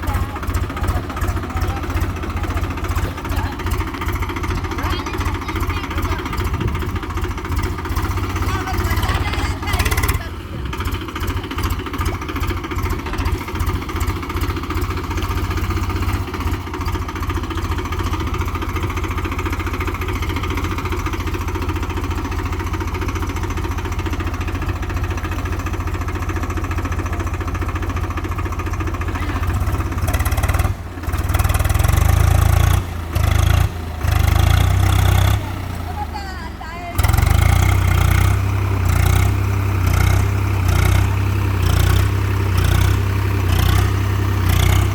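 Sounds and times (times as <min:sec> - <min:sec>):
tractor diesel engine chugging: 0:00.0 - 0:44.9.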